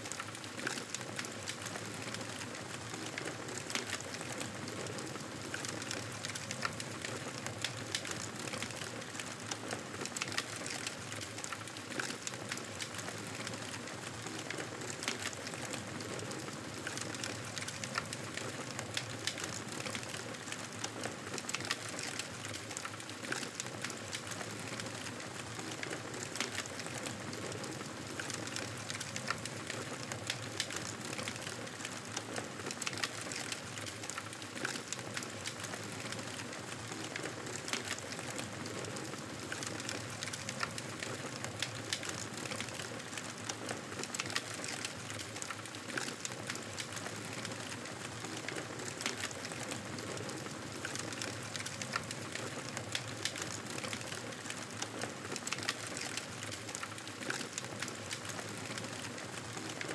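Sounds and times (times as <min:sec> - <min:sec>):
campfire crackling and popping: 0:05.4 - 0:59.9.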